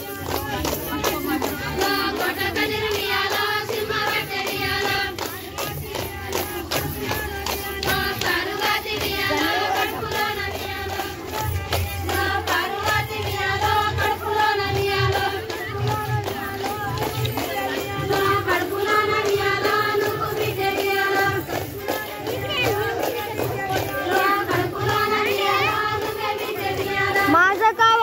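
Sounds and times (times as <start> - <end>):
rhythmic hand clapping: 0.0 - 28.0
women singing folk song: 0.0 - 28.0.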